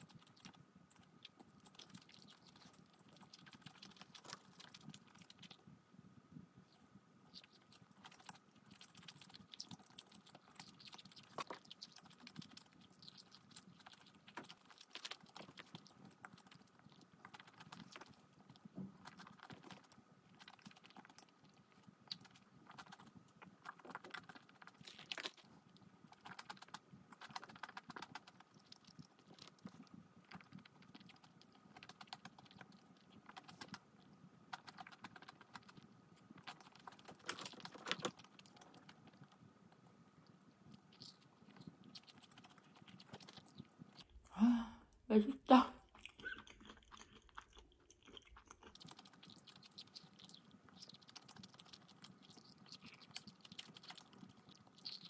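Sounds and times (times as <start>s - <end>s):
chewing food: 0.0s - 44.3s, 45.8s - 55.0s.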